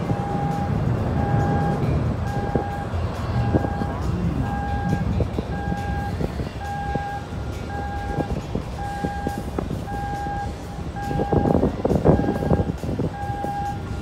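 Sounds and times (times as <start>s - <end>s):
electronic warning beeps: 0.0s - 14.0s
low engine rumble: 0.0s - 14.0s.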